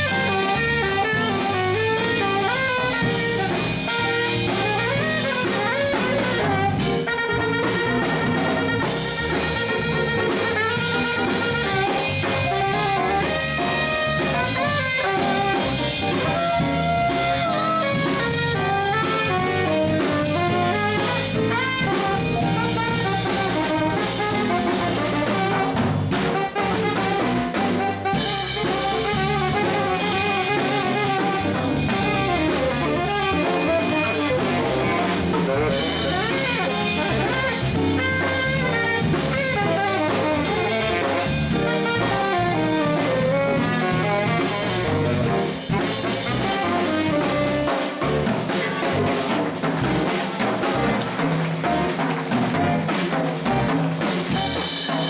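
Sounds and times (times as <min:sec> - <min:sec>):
tenor saxophone: 0:00.0 - 0:52.0, 0:52.7 - 0:55.0
drum kit: 0:00.0 - 0:55.0
electric bass: 0:00.0 - 0:55.0
piano: 0:00.0 - 0:55.0.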